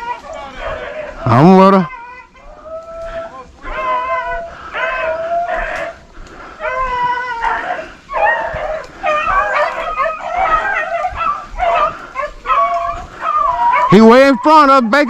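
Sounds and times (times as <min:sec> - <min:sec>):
dogs baying: 0:00.0 - 0:15.0.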